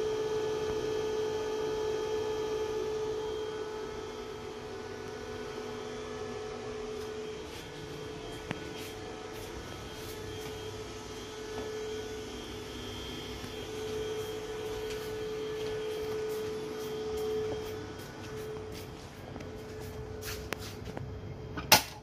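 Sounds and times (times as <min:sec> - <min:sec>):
machine hum with whining tone: 0:00.0 - 0:22.0.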